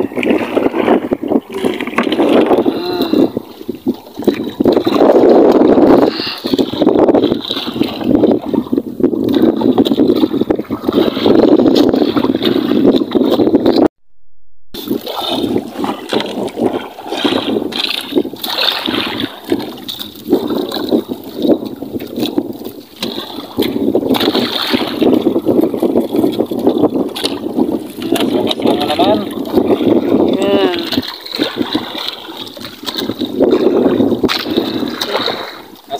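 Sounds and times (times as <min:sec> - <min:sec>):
sea water lapping against hull: 0:00.0 - 0:13.9, 0:14.8 - 0:35.9.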